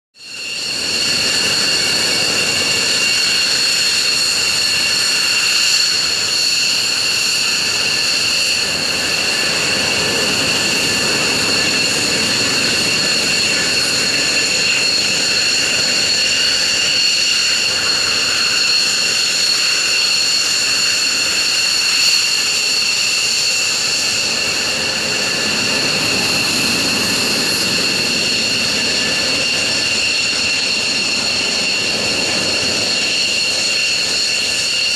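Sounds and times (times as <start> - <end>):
jet engines idling: 0.3 - 34.9.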